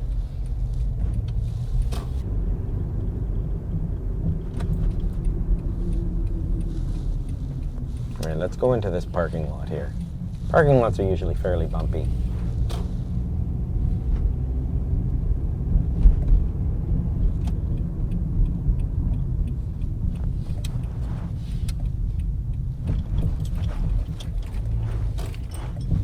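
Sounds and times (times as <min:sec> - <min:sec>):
road rumble inside car: 0:00.0 - 0:26.0
suspension clunks and rattles: 0:00.0 - 0:26.0.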